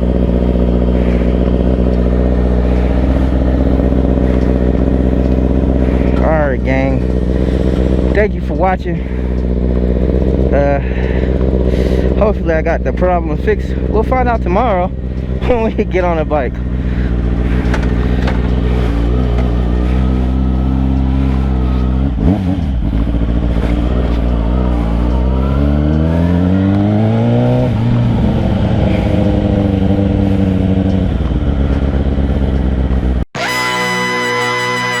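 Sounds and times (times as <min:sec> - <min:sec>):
vehicle engine accelerating: 0:00.0 - 0:35.0.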